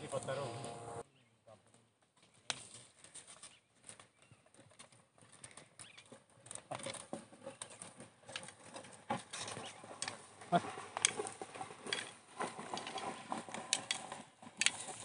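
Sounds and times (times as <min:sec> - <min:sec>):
wooden plank dragging on soil: 0:00.0 - 0:01.0, 0:02.4 - 0:15.0.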